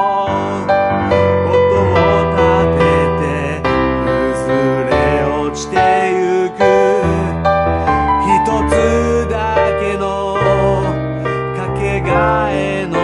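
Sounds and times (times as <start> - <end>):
man singing long notes: 0.0 - 13.0
piano accompaniment: 0.0 - 13.0.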